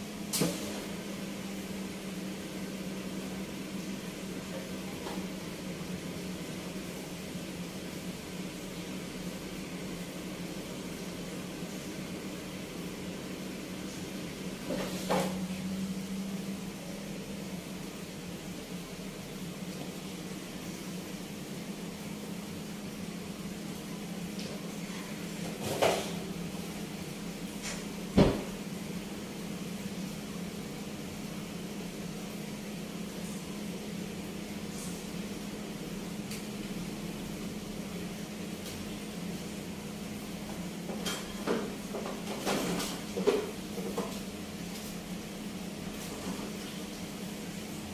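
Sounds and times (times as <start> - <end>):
low machine hum: 0.0 - 47.9.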